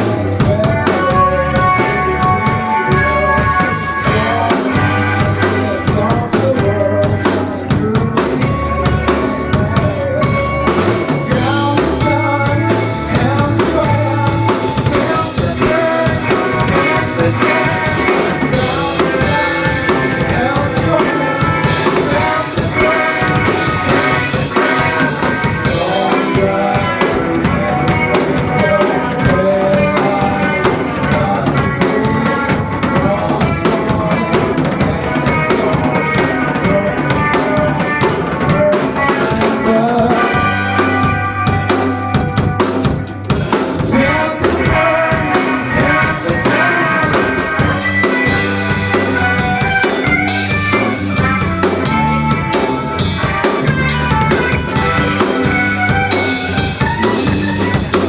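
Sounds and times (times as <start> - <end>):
drum kit beat: 0.0 - 58.0
live band playing: 0.0 - 58.0.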